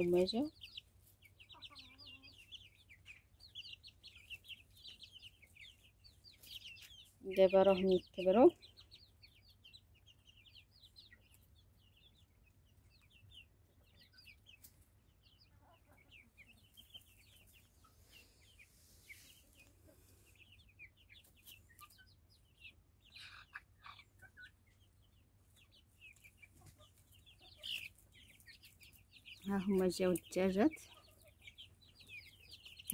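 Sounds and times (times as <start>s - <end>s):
chickens clucking softly: 0.0s - 32.9s
chicks peeping: 0.0s - 32.9s.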